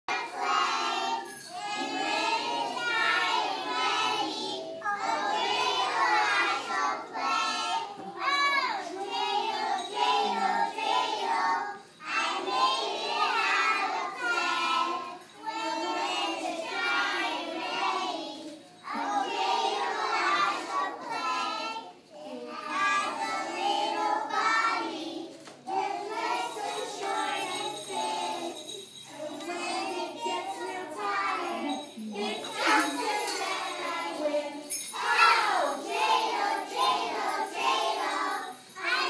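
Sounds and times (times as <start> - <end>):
children singing together: 0.1 - 39.0.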